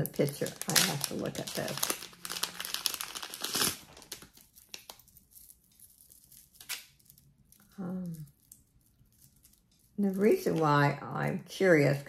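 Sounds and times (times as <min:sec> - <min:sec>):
wrapping crinkling: 0:00.0 - 0:10.8.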